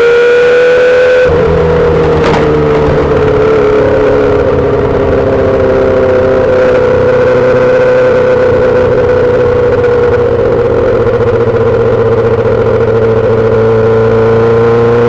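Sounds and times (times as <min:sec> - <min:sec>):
motorcycle engine running loud: 0:00.0 - 0:15.0.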